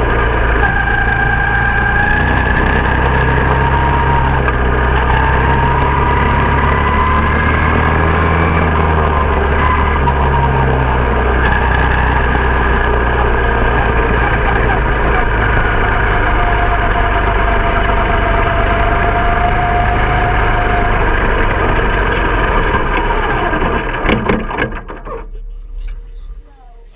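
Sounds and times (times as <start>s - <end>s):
small race car engine running: 0.0s - 25.3s.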